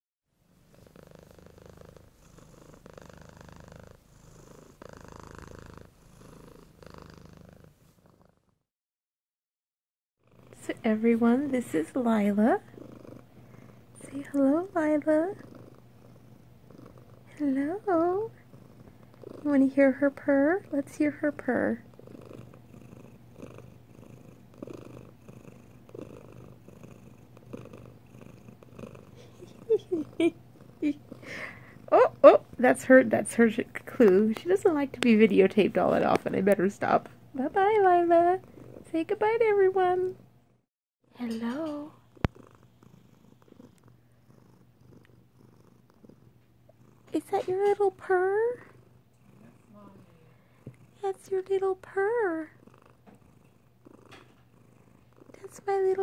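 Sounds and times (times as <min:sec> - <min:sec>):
cat purring: 0:00.5 - 0:08.7, 0:10.2 - 0:40.7, 0:41.3 - 0:56.0.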